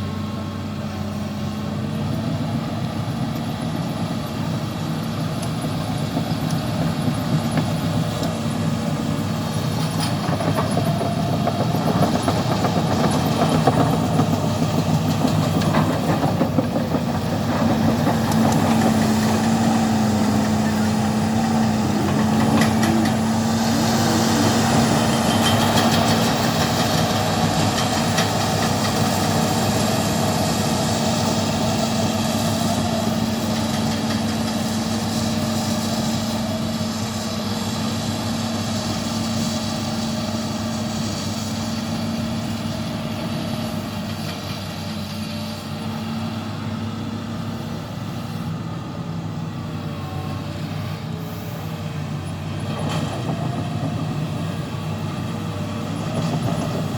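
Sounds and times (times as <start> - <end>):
diesel engine humming: 0.0 - 56.9.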